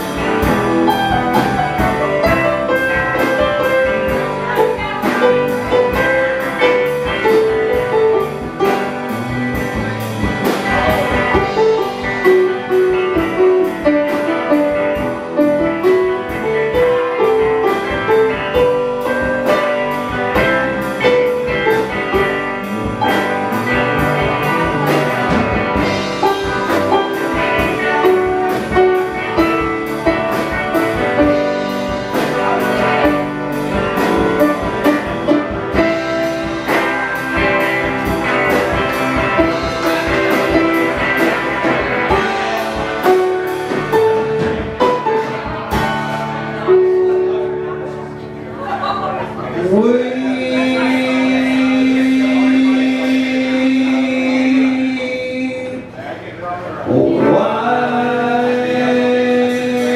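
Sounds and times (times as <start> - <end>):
live band playing: 0.0 - 55.9, 56.7 - 59.9.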